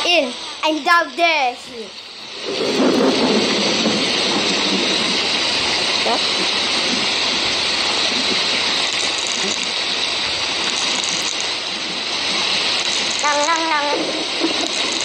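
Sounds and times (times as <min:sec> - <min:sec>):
rushing water-like noise: 0:00.0 - 0:15.0.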